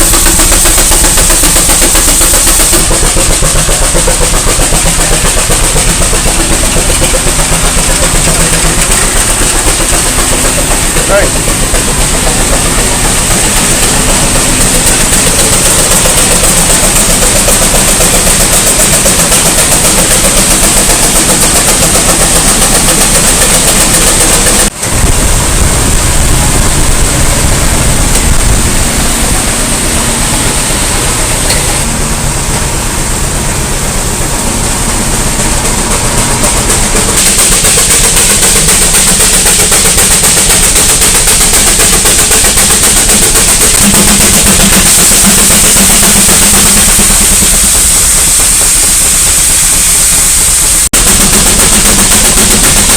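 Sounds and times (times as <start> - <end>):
steam engine running machinery: 0.0 - 52.9.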